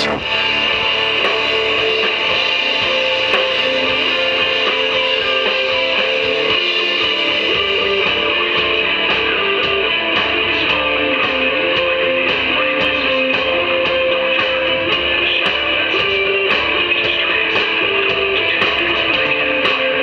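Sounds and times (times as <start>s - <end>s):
bass guitar: 0.0s - 20.0s
drums: 0.0s - 20.0s
electric guitar: 0.0s - 20.0s.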